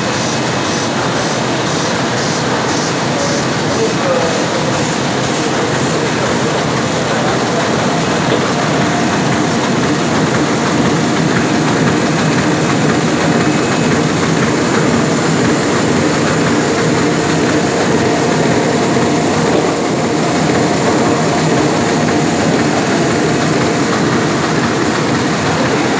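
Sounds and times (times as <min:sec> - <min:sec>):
printing press running: 0:00.0 - 0:25.9.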